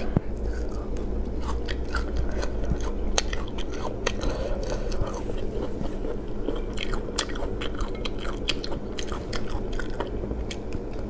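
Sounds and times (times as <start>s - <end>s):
crunchy chewing: 0.0s - 11.0s.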